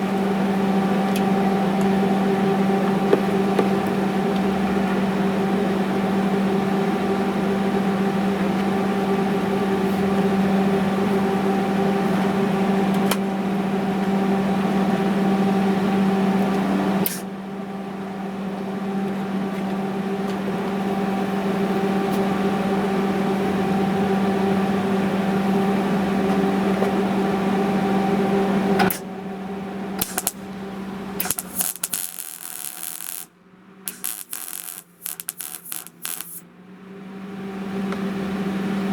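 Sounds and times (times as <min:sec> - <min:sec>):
electric machine hum: 0:00.0 - 0:38.9.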